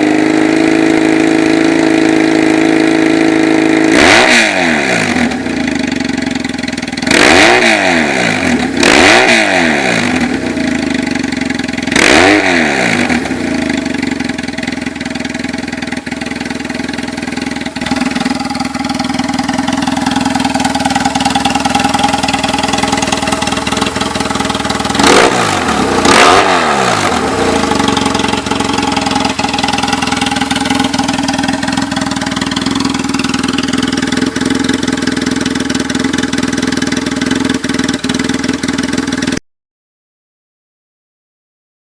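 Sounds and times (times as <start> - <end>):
motorcycle engine revving: 0.0 - 39.4.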